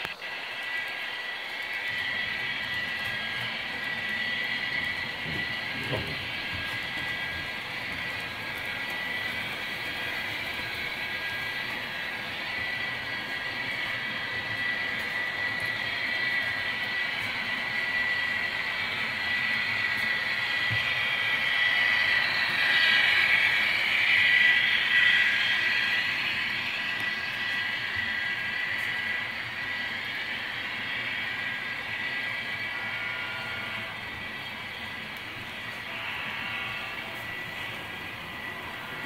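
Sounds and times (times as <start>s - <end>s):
model train whine: 0.0s - 39.0s
wheels rolling on track: 0.0s - 39.0s.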